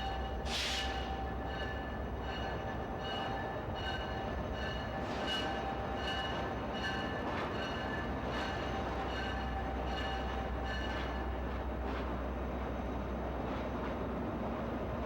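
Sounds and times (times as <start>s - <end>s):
train rumble and rail noise: 0.0s - 15.0s.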